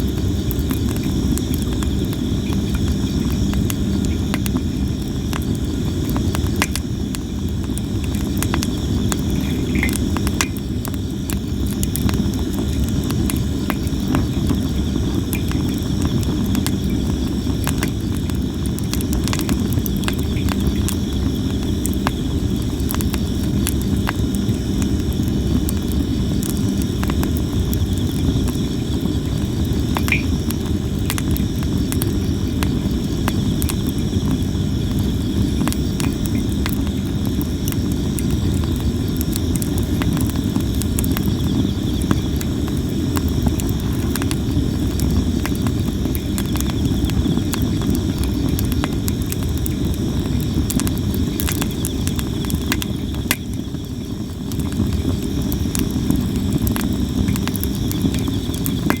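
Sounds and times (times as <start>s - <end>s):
campfire wood crackling and popping: 0.0s - 59.0s
insects chirping: 0.0s - 59.0s.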